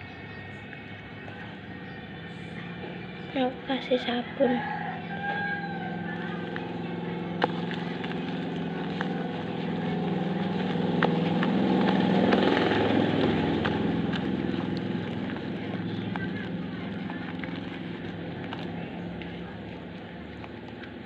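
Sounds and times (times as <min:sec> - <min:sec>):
vehicle engine passing by: 0:00.0 - 0:21.0.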